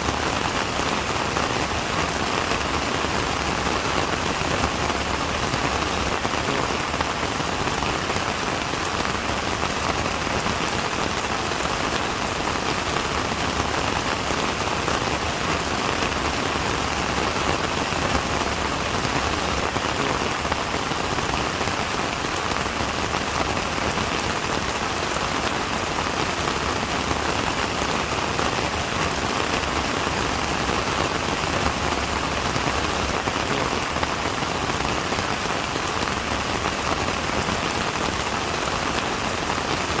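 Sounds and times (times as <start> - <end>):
steady rain pattering: 0.0 - 40.0.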